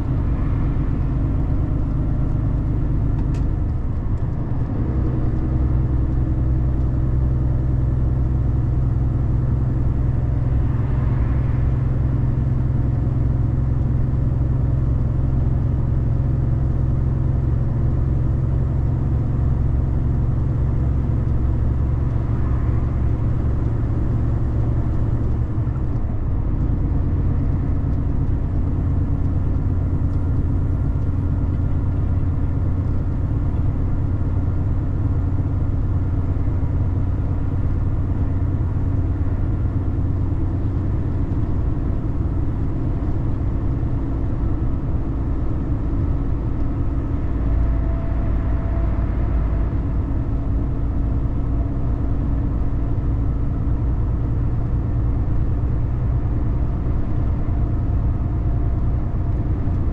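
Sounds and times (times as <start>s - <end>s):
car engine: 0.0s - 59.9s.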